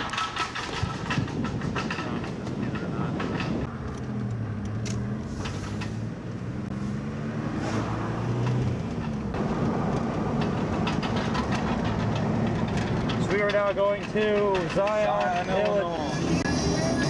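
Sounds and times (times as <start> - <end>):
tyre and road noise: 0.0 - 17.0
van engine running: 0.0 - 17.0.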